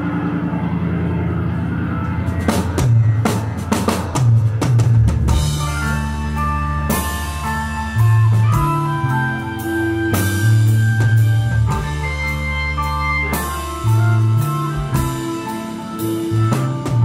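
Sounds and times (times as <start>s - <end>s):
held low notes: 0.0s - 17.0s
live rock band playing: 0.0s - 17.0s.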